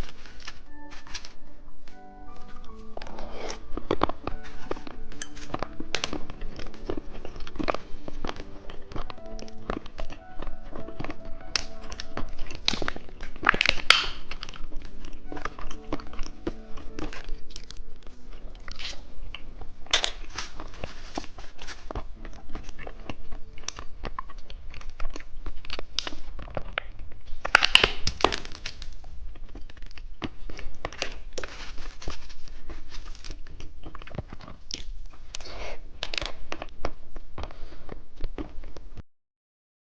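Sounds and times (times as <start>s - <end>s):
packaging crinkling: 0.0s - 37.2s
candy crunching and chewing: 0.0s - 39.0s.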